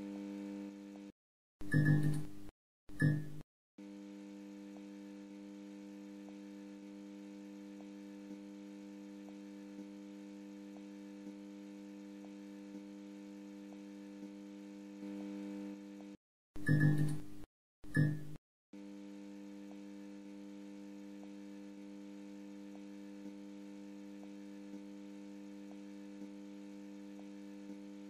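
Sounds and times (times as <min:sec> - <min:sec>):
neon sign electrical hum: 0:01.6 - 0:28.0.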